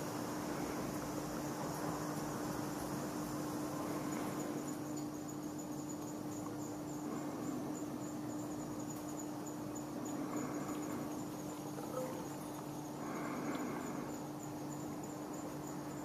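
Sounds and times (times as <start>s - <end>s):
insects chirping: 0.0s - 16.0s
steady low hum: 0.0s - 16.0s.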